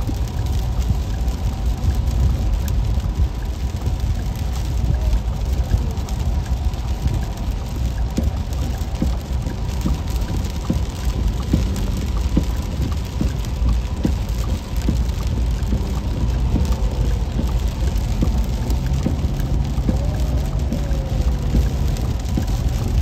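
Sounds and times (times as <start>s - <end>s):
heavy rain on car: 0.0s - 23.0s
low road rumble: 0.0s - 23.0s.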